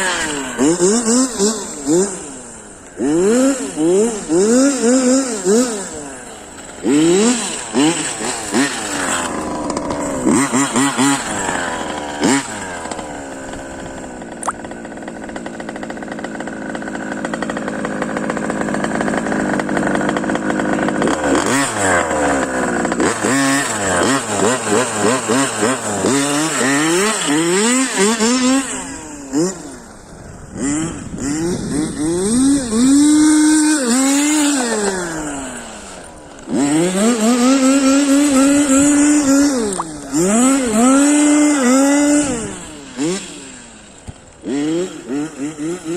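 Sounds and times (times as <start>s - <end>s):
small two-stroke engine revving: 0.0s - 45.9s.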